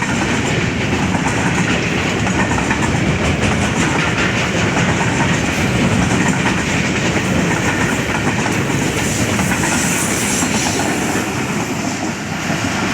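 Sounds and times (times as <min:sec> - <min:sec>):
train wheels on rails: 0:00.0 - 0:12.9.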